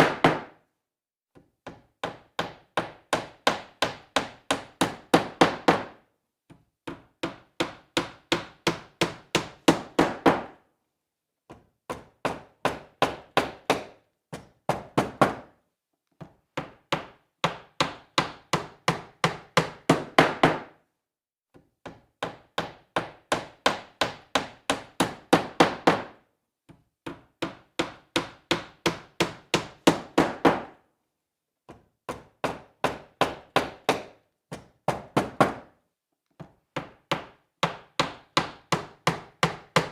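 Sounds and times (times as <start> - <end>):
hammer driving nail into wood: 0.0 - 0.6, 1.3 - 10.6, 11.5 - 15.6, 16.2 - 20.8, 21.5 - 30.8, 31.7 - 35.8, 36.4 - 39.9.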